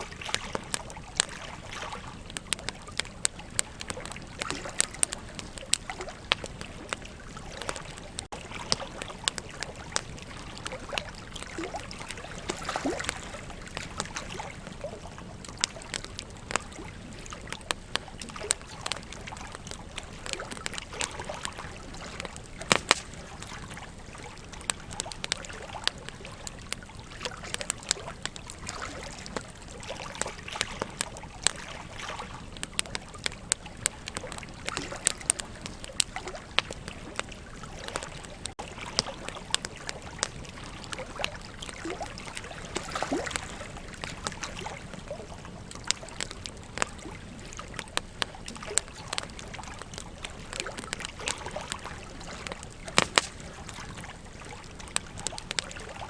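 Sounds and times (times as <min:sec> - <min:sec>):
campfire crackling and popping: 0:00.0 - 0:56.0
flowing river water: 0:00.0 - 0:56.0.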